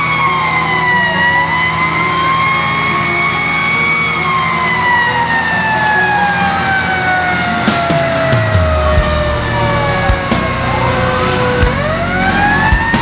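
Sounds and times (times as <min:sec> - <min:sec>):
fire truck siren wailing: 0:00.0 - 0:13.0
truck engine running: 0:00.0 - 0:13.0.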